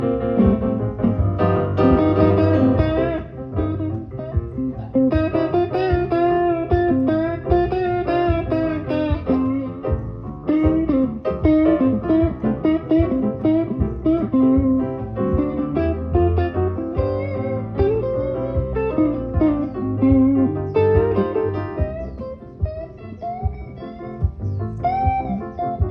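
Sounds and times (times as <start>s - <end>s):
plucked guitar instrumental: 0.0s - 25.9s.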